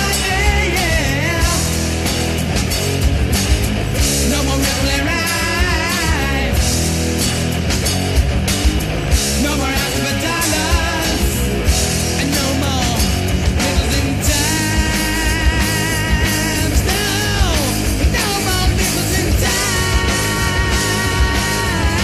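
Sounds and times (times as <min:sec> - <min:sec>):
hard rock band playing: 0:00.0 - 0:22.0
steady drum beat: 0:00.0 - 0:22.0.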